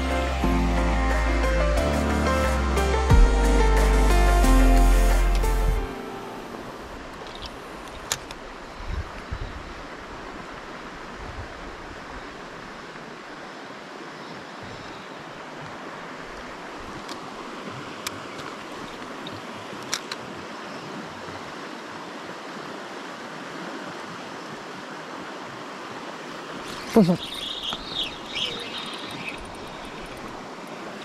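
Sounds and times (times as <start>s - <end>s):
river water rushing over rocks: 5.2s - 31.0s.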